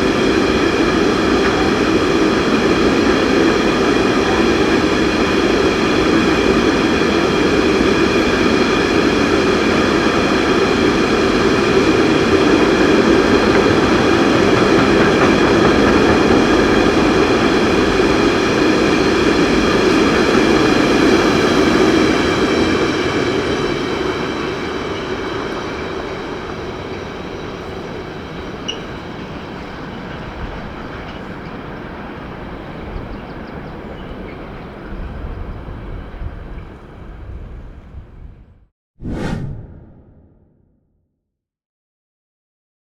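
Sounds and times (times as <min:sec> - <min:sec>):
freight train rumbling: 0:00.0 - 0:38.4.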